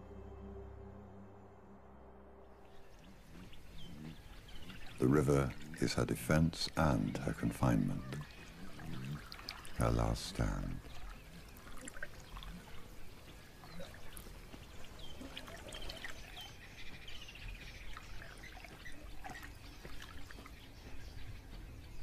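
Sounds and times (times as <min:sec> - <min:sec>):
water birds chirping: 0:00.0 - 0:22.0
water trickling and splashing: 0:02.8 - 0:22.0.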